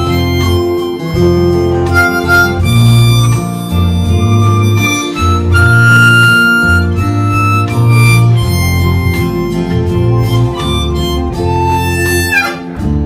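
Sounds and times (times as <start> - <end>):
acoustic guitar backing: 0.0 - 13.0
harmonica melody: 0.0 - 13.0.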